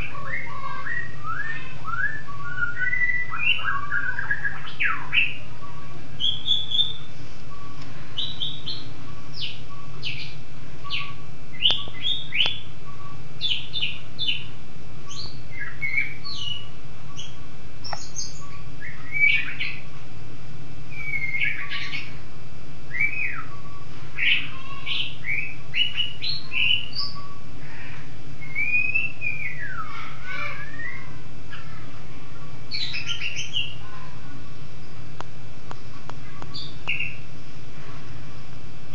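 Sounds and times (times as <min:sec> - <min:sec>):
songbird singing: 0:00.0 - 0:38.9
steady low hum: 0:00.0 - 0:38.9.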